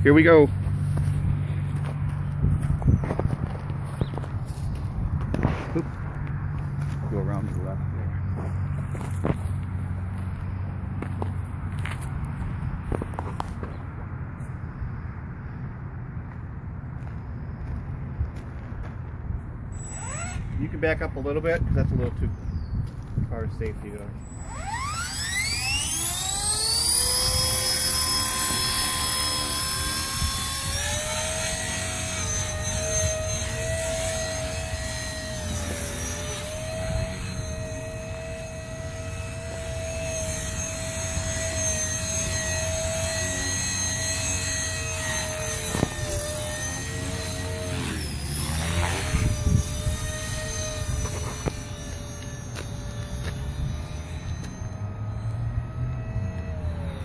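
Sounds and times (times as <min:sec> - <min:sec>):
rc helicopter motor whine: 0:00.0 - 0:16.3, 0:17.1 - 0:57.0.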